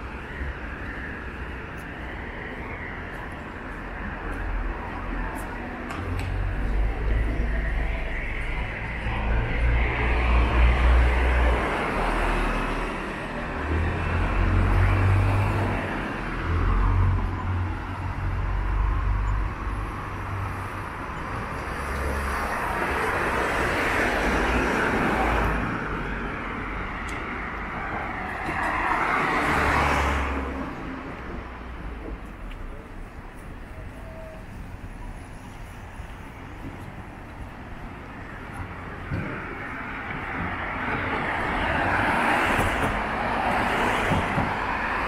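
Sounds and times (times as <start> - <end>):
cars passing: 0.0 - 45.0
deep traffic rumble: 0.0 - 45.0.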